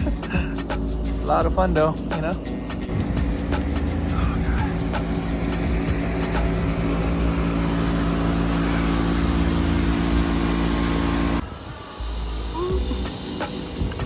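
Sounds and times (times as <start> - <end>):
road noise: 0.0 - 14.0
vehicle engine rumbling: 0.0 - 14.0.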